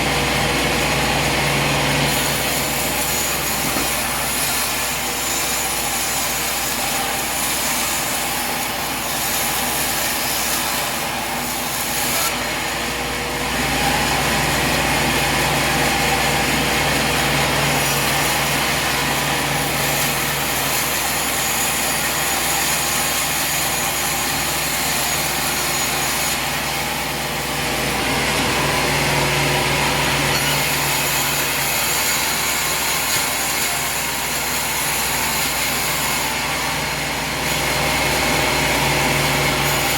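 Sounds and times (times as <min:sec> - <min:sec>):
saw blade rasping through log: 0:00.0 - 0:39.9
sawmill mechanical drone: 0:00.0 - 0:39.9.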